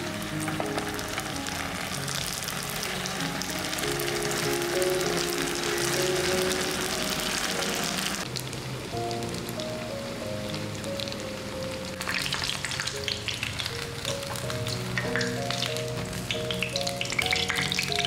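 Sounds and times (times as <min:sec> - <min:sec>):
background music: 0:00.0 - 0:18.0
dumplings sizzling in hot oil: 0:00.0 - 0:18.0.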